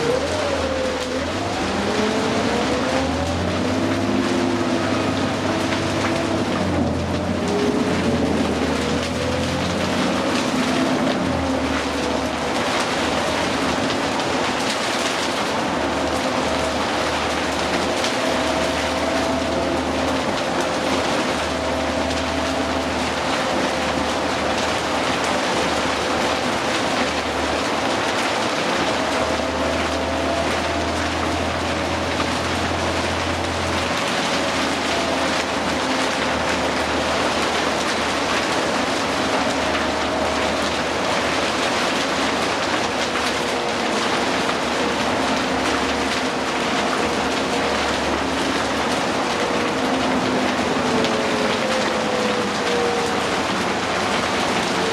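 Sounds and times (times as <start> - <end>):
bus engine whine and rumble: 0.0 - 54.9
rain hiss: 0.0 - 54.9.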